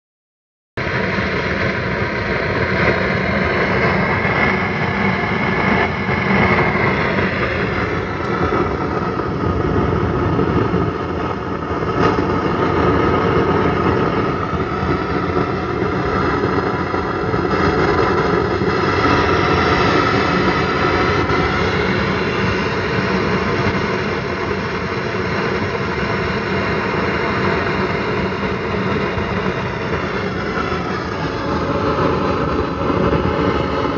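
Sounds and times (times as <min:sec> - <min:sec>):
loud static noise from bass amp: 0:00.8 - 0:33.9.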